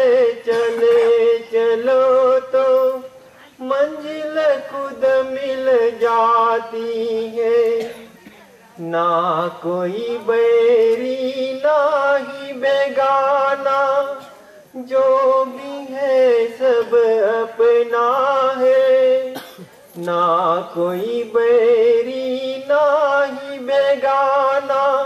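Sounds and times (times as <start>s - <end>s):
person singing devotional song: 0.0s - 25.0s.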